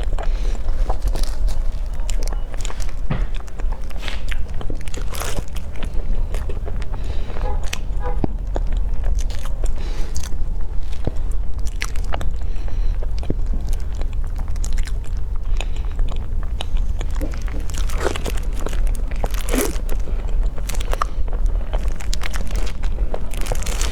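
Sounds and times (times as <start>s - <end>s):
crunchy chewing: 0.0s - 23.9s
steady low hum: 0.0s - 23.9s.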